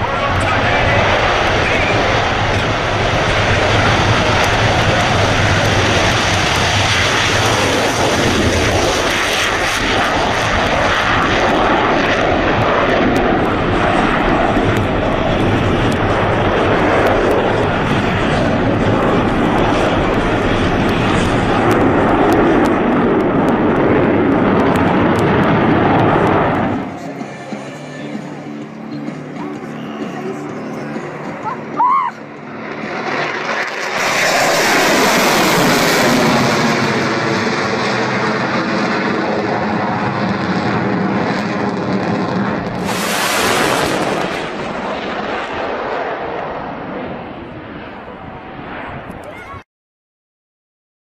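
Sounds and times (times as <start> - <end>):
jet engines rushing: 0.0 - 49.6.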